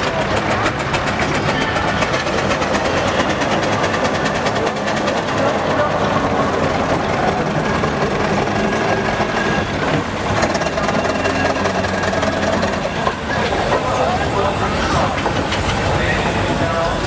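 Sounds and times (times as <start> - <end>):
steam engine mechanical clatter: 0.0 - 17.0.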